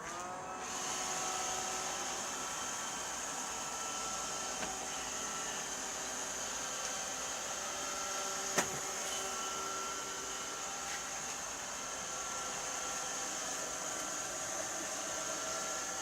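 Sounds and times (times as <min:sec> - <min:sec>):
robot vacuum cleaner running: 0:00.0 - 0:16.0.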